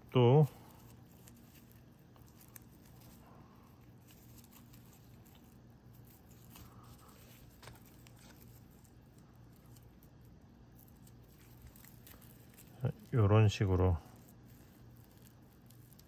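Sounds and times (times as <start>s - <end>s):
low steady hum: 0.0s - 16.0s
yarn rustling: 0.0s - 16.0s.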